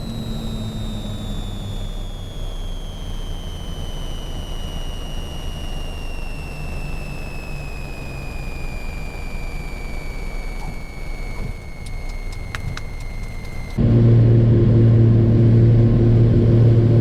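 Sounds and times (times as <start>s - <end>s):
aircraft engines droning in cabin: 0.0s - 17.0s.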